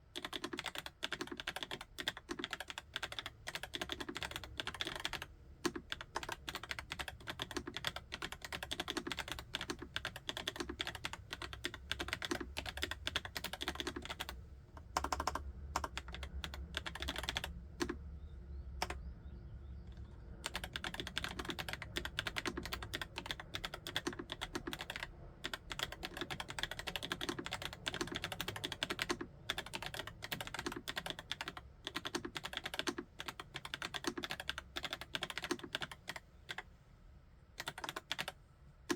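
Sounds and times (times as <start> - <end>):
mechanical keyboard typing: 0.0 - 18.0, 18.8 - 19.0, 20.4 - 36.6, 37.6 - 38.9.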